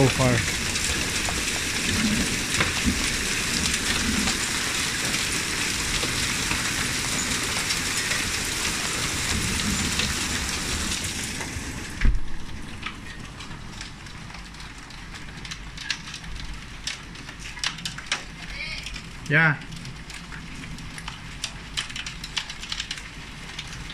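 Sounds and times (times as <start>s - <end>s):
hail and rain on wooden deck: 0.0s - 23.9s.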